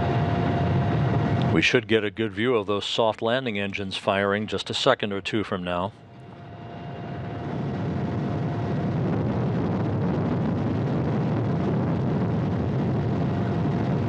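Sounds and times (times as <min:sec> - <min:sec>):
helicopter rotor and engines rumbling: 0:00.0 - 0:14.0.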